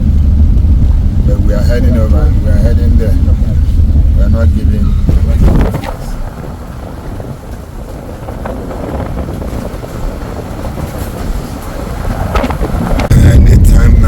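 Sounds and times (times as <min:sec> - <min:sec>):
road and wind noise in car: 0:00.0 - 0:14.0.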